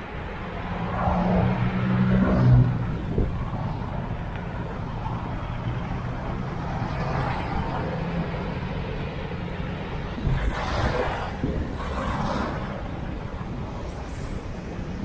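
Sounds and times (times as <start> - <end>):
low road and vehicle rumble: 0.0 - 15.0.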